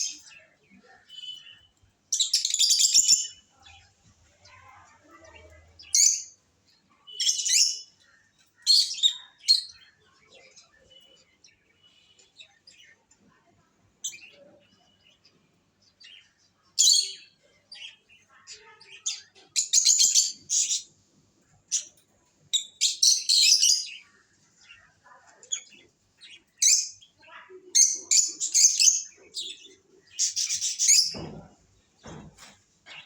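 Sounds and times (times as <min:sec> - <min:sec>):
lovebirds chirping: 0:00.0 - 0:33.0.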